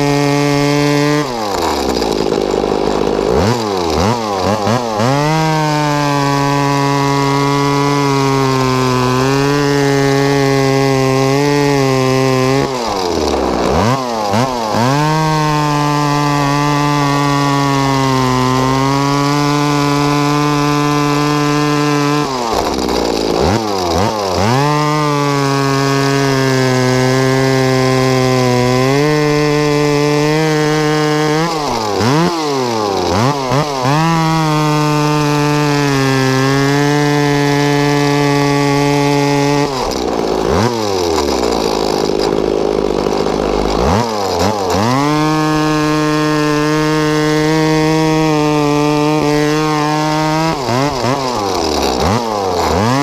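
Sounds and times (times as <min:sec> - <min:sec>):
chainsaw cutting logs: 0:00.0 - 0:53.0.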